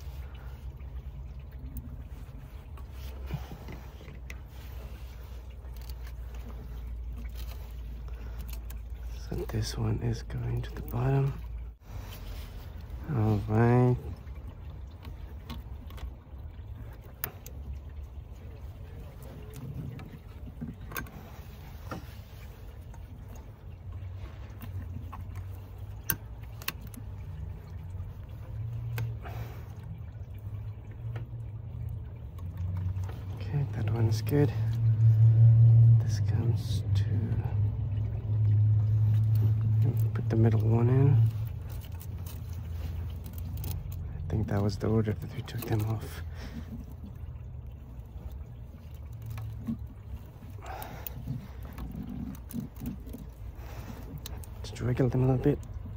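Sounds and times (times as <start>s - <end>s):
faint handling clicks and scrapes: 0.0s - 55.9s
low steady rumble: 0.0s - 55.9s.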